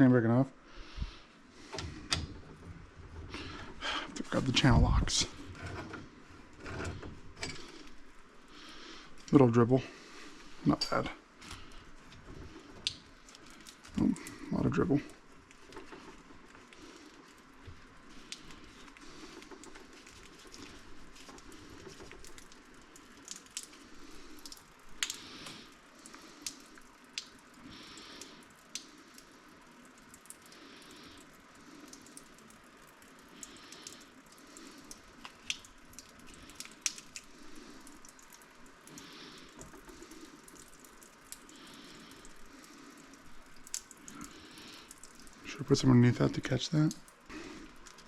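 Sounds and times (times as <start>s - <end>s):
faint water trickle: 0.0s - 48.0s
water dripping: 0.7s - 48.0s.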